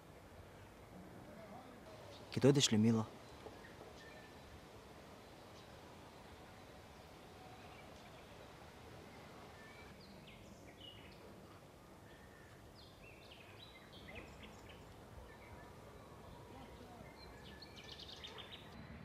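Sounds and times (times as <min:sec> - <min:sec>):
outdoor background hiss: 0:00.0 - 0:19.0
small birds chirping: 0:01.9 - 0:19.0.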